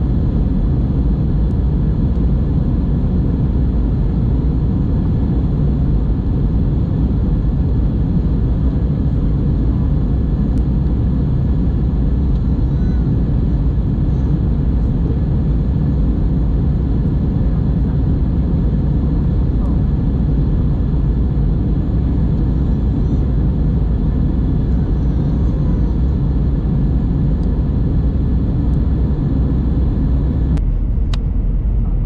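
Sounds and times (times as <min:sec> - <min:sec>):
airflow over fuselage: 0:00.0 - 0:32.0
jet engine noise in cabin: 0:00.0 - 0:32.0.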